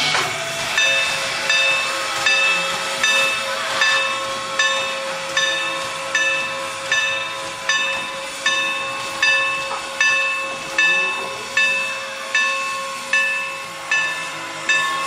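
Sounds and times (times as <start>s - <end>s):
locomotive bell ringing: 0.0s - 15.0s
steam hissing: 0.0s - 15.0s.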